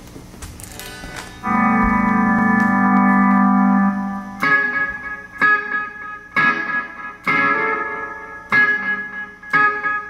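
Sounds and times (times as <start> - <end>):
electric guitar chords: 0.6 - 10.0.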